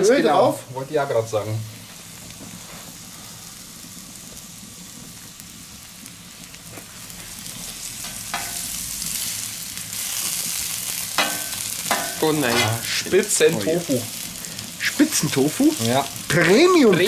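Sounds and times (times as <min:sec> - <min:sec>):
food sizzling on hot plate: 0:00.0 - 0:17.0.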